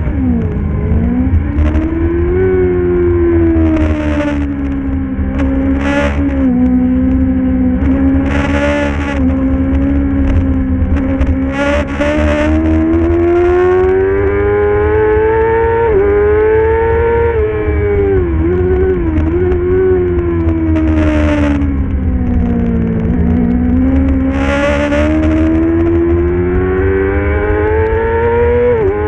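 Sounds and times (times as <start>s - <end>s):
racing motorcycle engine at high revs: 0.0s - 29.0s.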